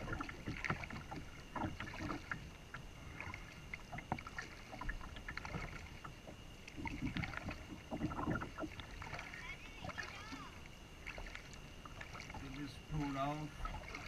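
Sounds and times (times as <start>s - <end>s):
faint water sounds: 0.0s - 14.0s
light knocks and clicks from kayak: 0.0s - 14.0s.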